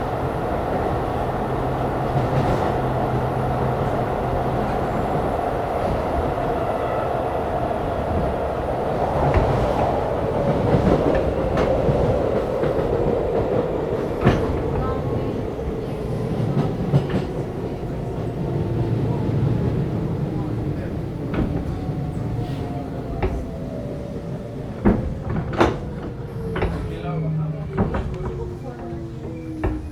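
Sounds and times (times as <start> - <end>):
rail joint clicks: 0.0 - 29.9
train wheel and rail rumble: 0.0 - 29.9.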